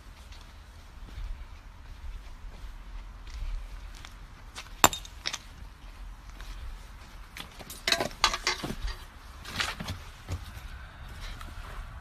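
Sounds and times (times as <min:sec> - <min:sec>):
footsteps crunching on dry ground: 0:00.0 - 0:12.0.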